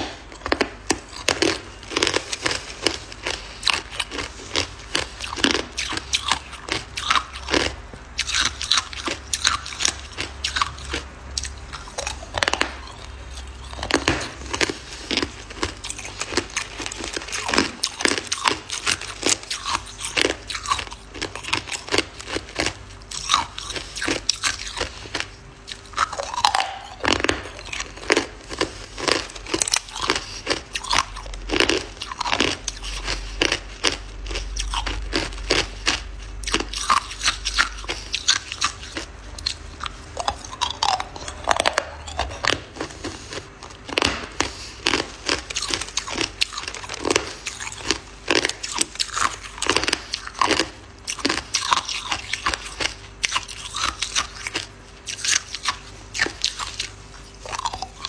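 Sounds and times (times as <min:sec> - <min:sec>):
ice being crunched by teeth: 0:00.0 - 0:58.0.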